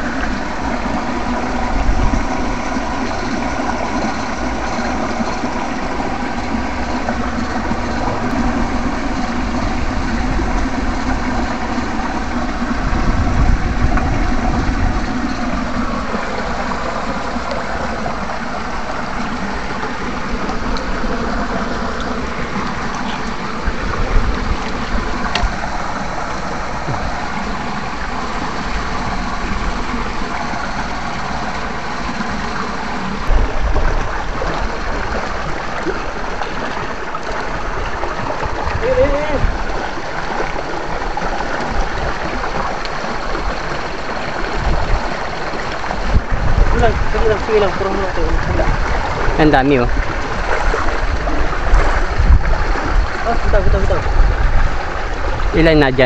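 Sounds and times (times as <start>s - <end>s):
electrical buzzing hum: 0.0s - 56.0s.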